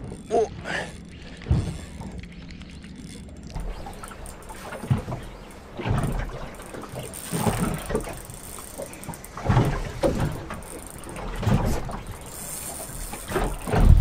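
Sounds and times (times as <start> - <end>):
waves slapping boat hull: 0.0 - 14.0.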